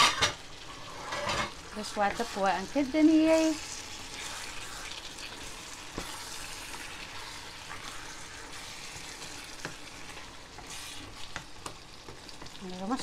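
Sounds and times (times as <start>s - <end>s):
sauce sizzling in a pan: 0.1s - 13.0s
utensil stirring in a pan: 0.4s - 13.0s.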